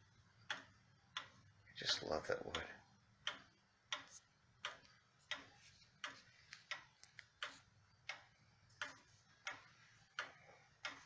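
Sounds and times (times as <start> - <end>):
wall clock ticking: 0.0 - 11.0.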